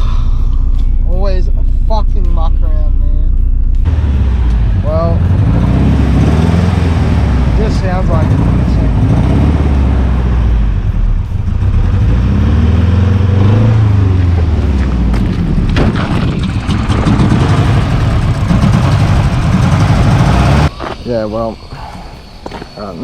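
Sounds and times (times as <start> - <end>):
car engine misfiring and revving: 0.0 - 20.7.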